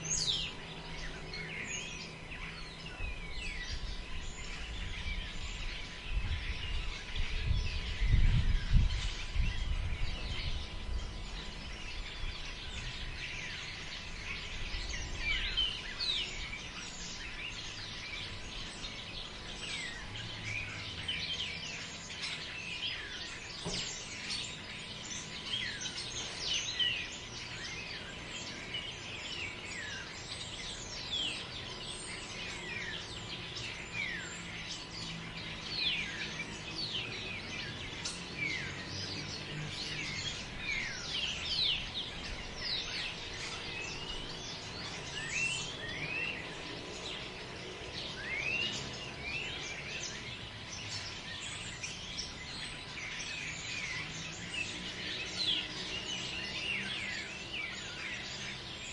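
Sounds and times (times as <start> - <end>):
birds chirping: 0.0 - 58.9
low steady wind: 0.0 - 58.9.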